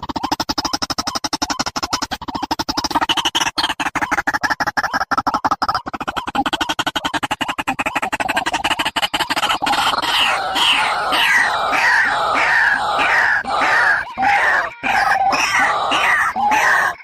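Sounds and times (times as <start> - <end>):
bird calls slurring downward: 0.0 - 17.0.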